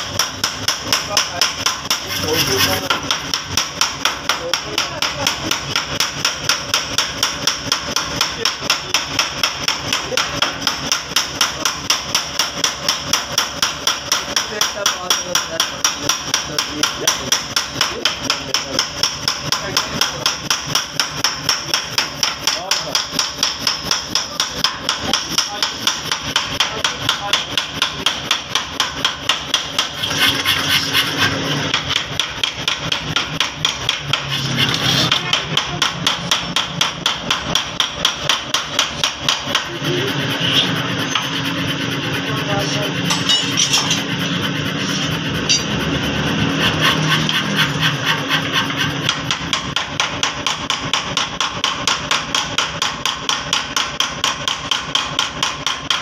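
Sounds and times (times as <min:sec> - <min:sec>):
power hammer striking hot steel: 0:00.0 - 0:56.0.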